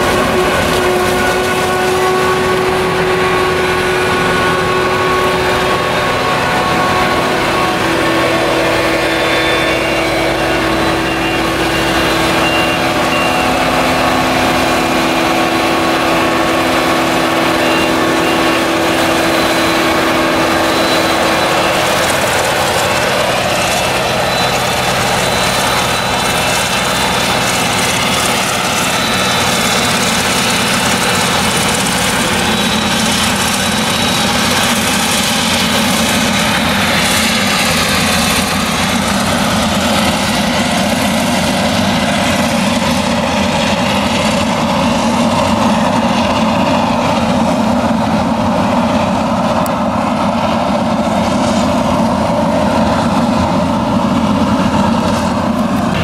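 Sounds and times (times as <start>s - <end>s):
forage harvester diesel engine drone: 0.0s - 56.0s.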